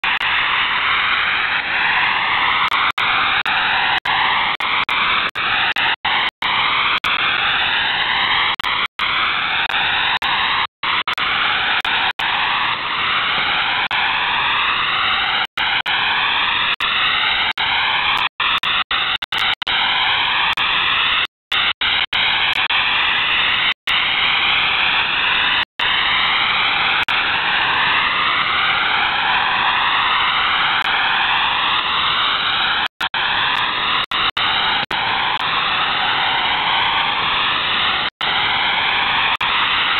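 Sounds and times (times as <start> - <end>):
radio static hiss: 0.0 - 39.9
slow rising radio tones: 0.0 - 39.9.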